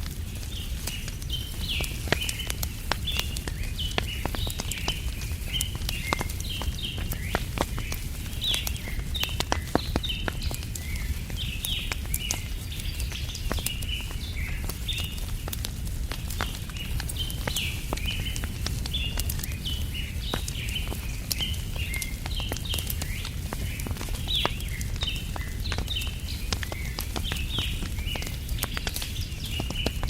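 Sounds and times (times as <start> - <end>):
small birds chirping: 0.0 - 30.0
wood fire crackling and popping: 0.0 - 30.0.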